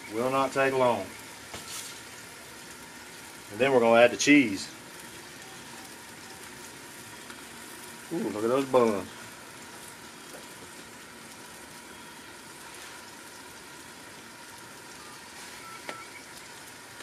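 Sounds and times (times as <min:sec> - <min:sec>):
buns sizzling on a griddle: 0:00.0 - 0:17.0.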